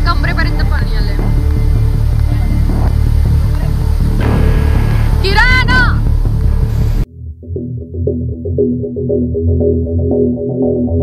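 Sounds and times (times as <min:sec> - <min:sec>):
background music with pulsing beat: 0:00.0 - 0:11.0.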